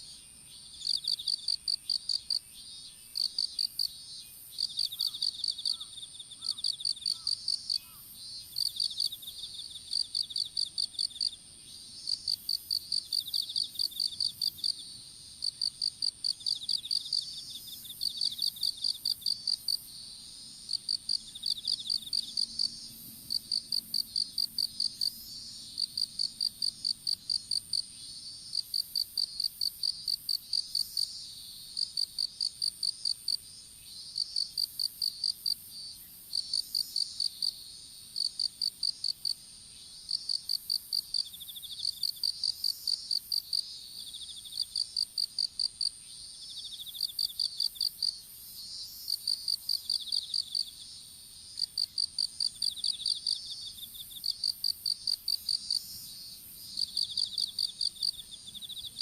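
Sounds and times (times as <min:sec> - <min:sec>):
insect continuous trill: 0:00.0 - 0:59.0
insect rapid high chirps: 0:00.0 - 0:59.0.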